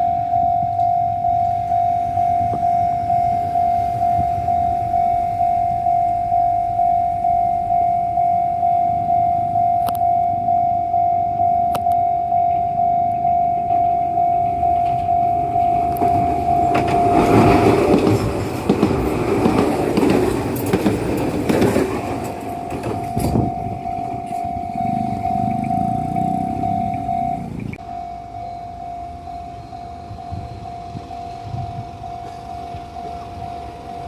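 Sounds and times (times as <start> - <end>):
train rumbling over crossing: 0.0 - 9.6, 12.5 - 34.0
level crossing alarm bell: 0.0 - 34.0.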